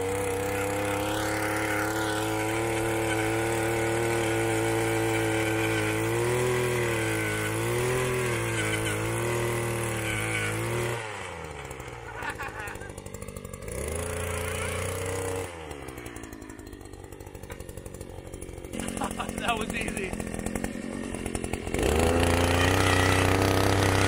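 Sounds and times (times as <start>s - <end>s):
gas auger engine drilling soil: 0.0s - 24.0s.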